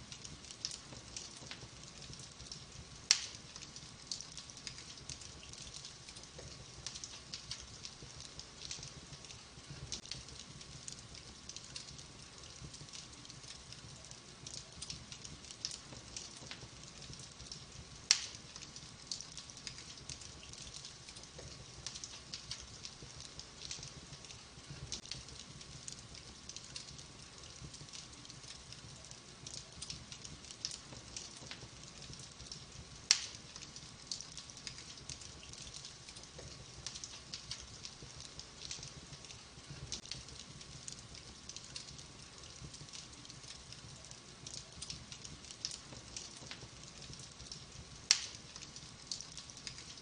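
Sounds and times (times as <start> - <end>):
soft hiss: 0.0 - 50.0
wood fire crackling and popping: 0.0 - 50.0.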